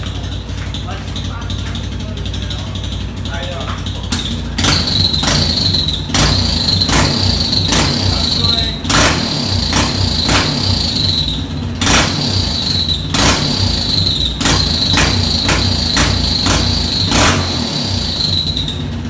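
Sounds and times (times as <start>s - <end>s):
motorcycle engine running: 0.0s - 19.0s
exhaust pops and cracks: 3.4s - 18.7s.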